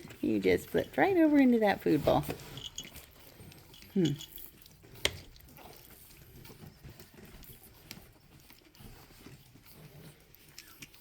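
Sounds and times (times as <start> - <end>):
puppy paws pattering: 0.0 - 11.0.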